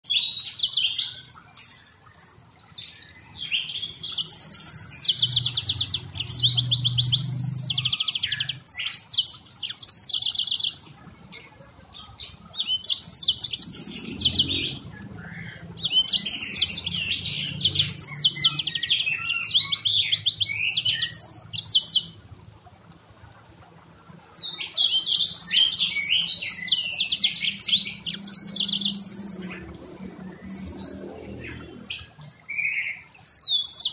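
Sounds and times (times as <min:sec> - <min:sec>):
canary singing trills and chirps: 0:00.0 - 0:22.2, 0:24.1 - 0:33.9.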